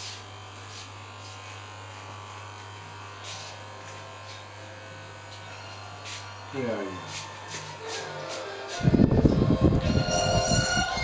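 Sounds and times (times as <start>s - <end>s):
electric hair clippers buzzing: 0.0s - 11.0s.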